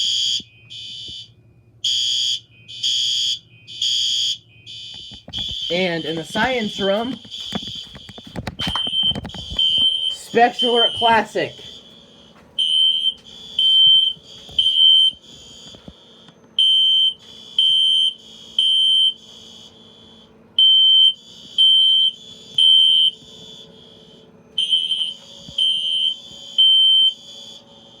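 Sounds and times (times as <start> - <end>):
fainter alarm horns: 0.0 - 28.0
fire alarm horn blasts: 0.0 - 28.0.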